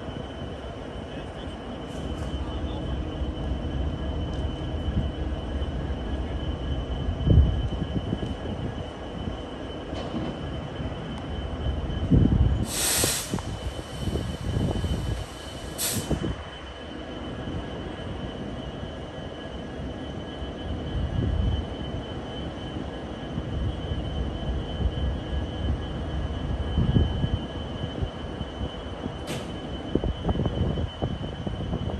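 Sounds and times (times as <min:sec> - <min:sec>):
locomotive engine and track noise: 0:00.0 - 0:31.9.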